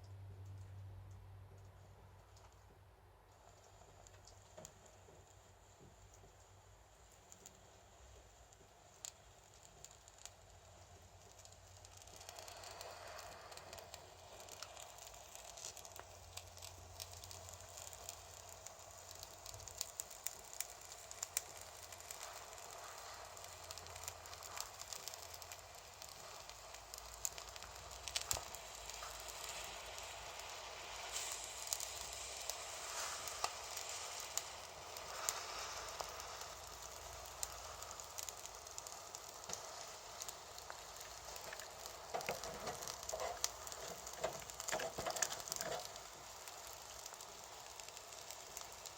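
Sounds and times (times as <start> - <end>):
charcoal crackling and popping: 0.0 - 48.9.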